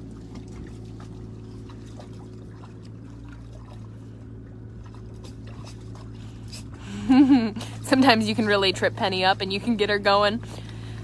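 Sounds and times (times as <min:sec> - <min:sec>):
low mechanical hum: 0:00.0 - 0:11.0
water trickling and splashing: 0:00.0 - 0:11.0.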